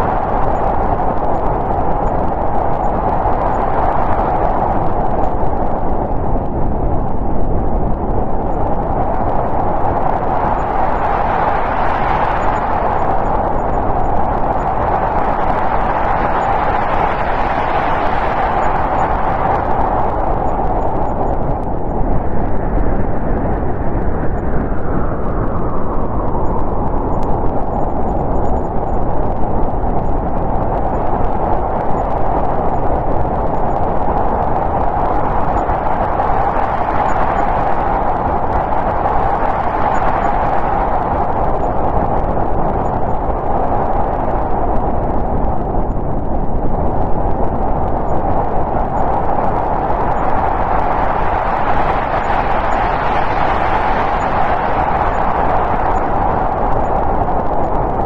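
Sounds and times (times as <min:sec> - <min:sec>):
storm wind blowing: 0:00.0 - 0:58.0.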